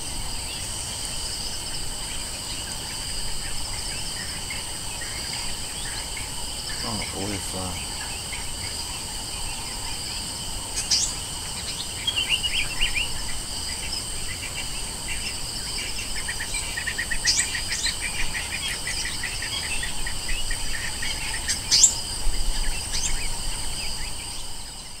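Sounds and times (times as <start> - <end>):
insects singing: 0.0 - 25.0.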